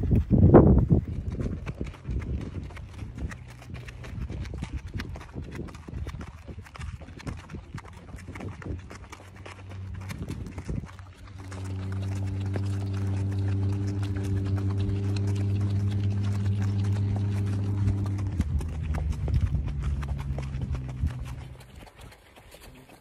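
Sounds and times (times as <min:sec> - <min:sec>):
horse hoofbeats on dirt road: 0:00.0 - 0:23.0
steady low hum: 0:00.0 - 0:23.0.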